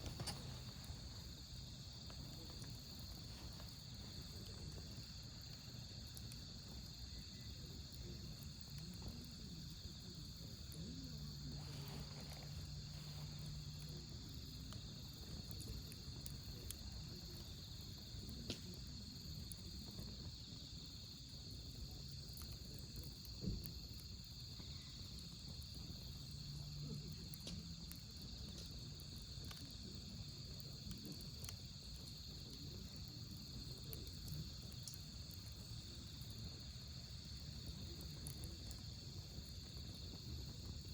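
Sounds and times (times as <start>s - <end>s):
crickets chirping: 0.0s - 40.9s
fire popping: 0.0s - 40.9s
wood fire crackling: 0.0s - 40.9s.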